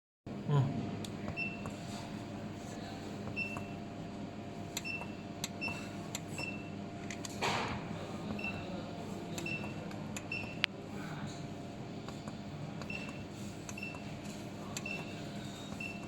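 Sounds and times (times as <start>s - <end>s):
low machine hum: 0.3s - 16.0s.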